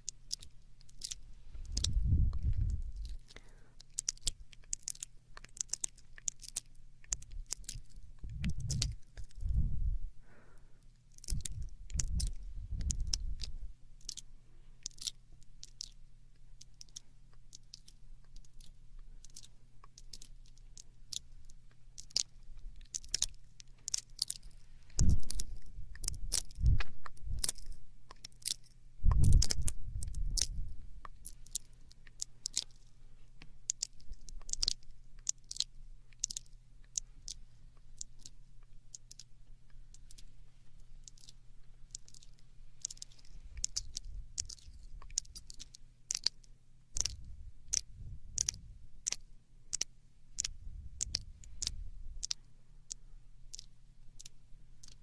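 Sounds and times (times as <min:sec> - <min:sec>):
wet mouth clicks and smacks: 0:00.0 - 0:09.7, 0:11.0 - 0:16.0, 0:16.6 - 0:32.9, 0:33.7 - 0:37.4, 0:38.0 - 0:40.3, 0:41.0 - 0:55.0.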